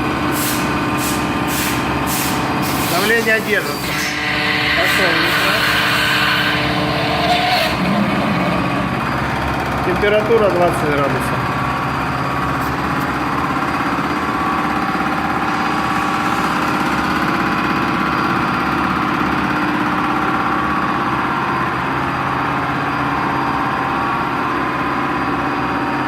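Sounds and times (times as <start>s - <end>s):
hydraulic pump humming and whining: 0.0s - 26.0s.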